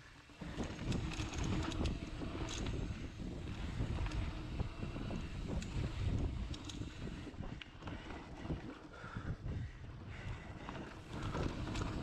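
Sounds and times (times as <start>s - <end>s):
bike clicks and rattles: 0.0s - 12.0s
wind buffeting microphone: 0.3s - 12.0s.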